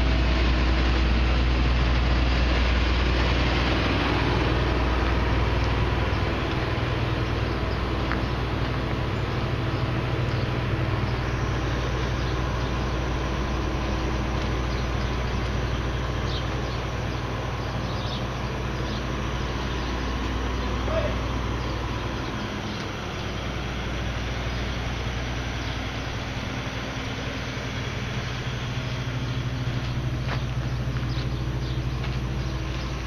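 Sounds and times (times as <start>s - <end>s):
combine harvester diesel engine: 0.0s - 33.0s.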